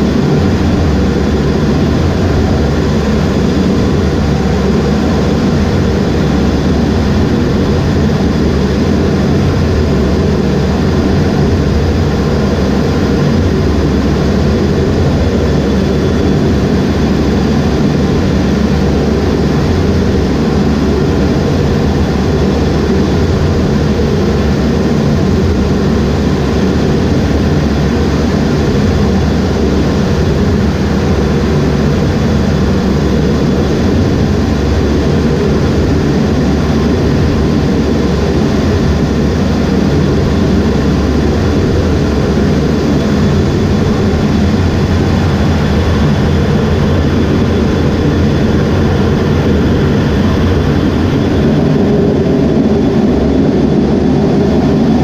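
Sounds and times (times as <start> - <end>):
jet engine noise in cockpit: 0.0 - 55.0.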